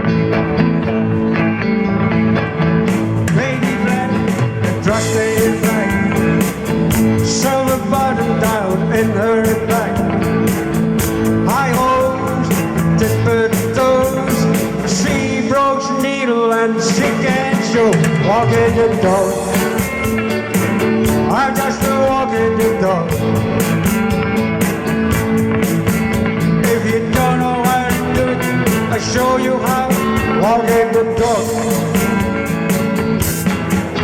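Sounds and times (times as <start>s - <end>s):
bass guitar: 0.0s - 34.0s
electric guitar: 0.0s - 34.0s.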